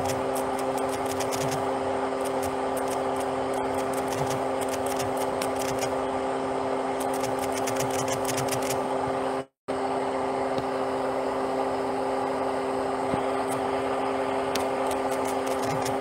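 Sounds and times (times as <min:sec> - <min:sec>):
car mechanical hum: 0:00.0 - 0:16.0.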